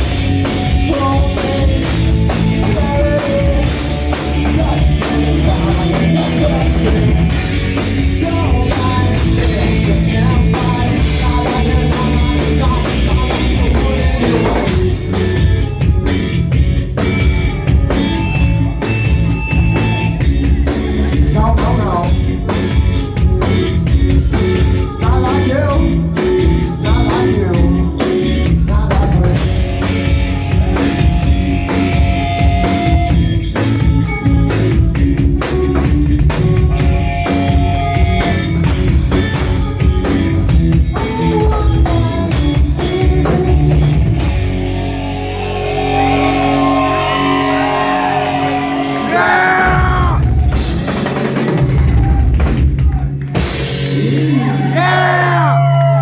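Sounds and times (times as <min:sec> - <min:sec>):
drum kit pounding: 0:00.0 - 0:56.0
electric guitar: 0:00.0 - 0:56.0
person singing: 0:00.4 - 0:19.3, 0:20.5 - 0:32.0, 0:33.6 - 0:38.4, 0:39.1 - 0:50.4, 0:53.9 - 0:56.0.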